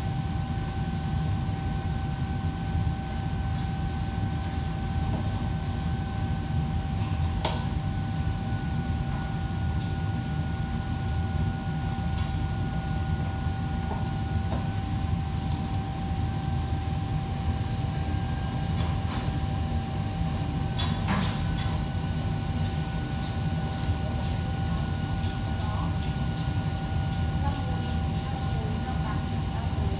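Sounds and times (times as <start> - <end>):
kitchen machinery hum: 0.0 - 29.9.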